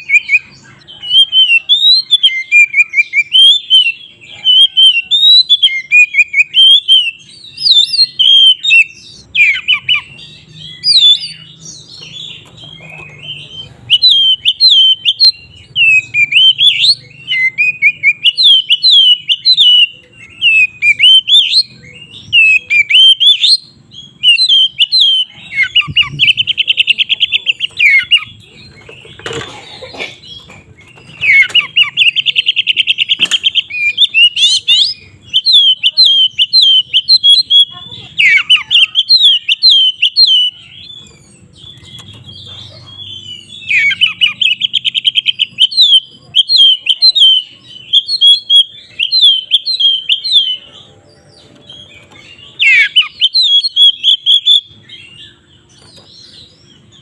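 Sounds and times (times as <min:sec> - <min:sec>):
songbird singing trills and whistles: 0:00.0 - 0:57.0.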